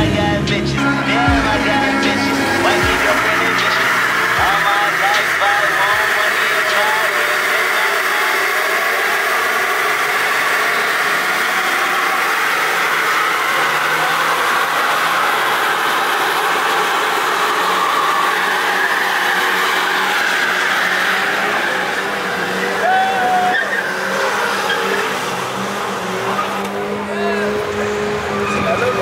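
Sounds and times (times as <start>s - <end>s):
car engine at high revs: 0.0s - 29.0s
tyres screeching: 0.0s - 29.0s.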